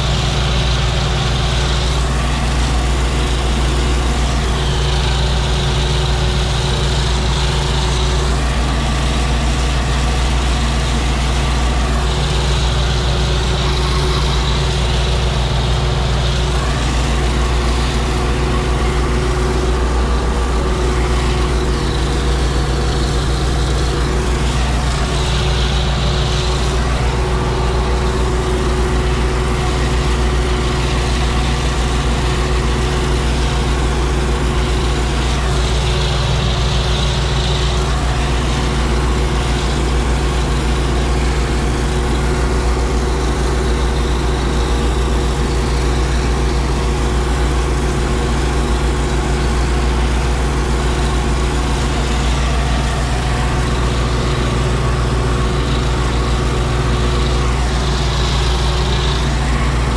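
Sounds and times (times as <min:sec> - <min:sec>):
high whine: 0:00.0 - 0:59.9
tractor diesel engine running: 0:00.0 - 0:59.9.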